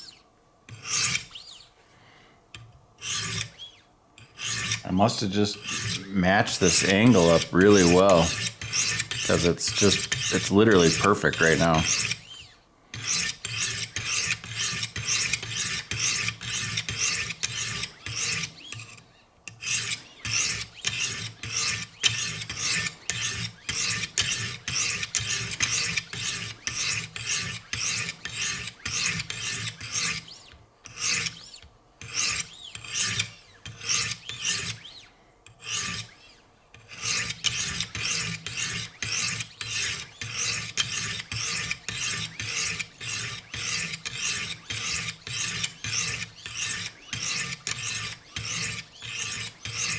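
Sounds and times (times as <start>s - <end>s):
sharpening stones scraping knife blade: 0.7s - 1.4s, 3.0s - 3.6s, 4.2s - 12.4s, 13.0s - 34.8s, 35.5s - 36.2s, 36.8s - 49.9s.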